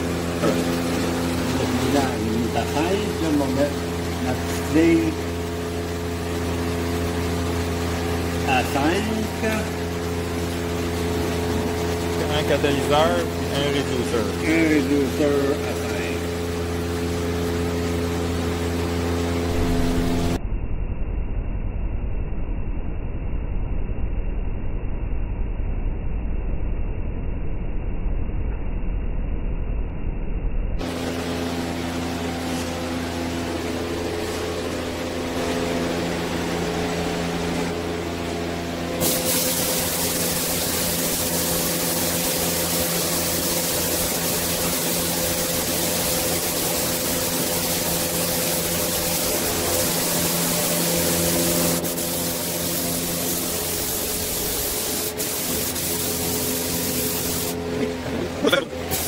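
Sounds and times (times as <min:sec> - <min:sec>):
paint spray gun hissing: 0:00.0 - 0:20.4, 0:30.8 - 0:58.0, 0:58.8 - 0:59.0
pitched machine hum: 0:00.0 - 0:20.6, 0:30.8 - 0:59.0.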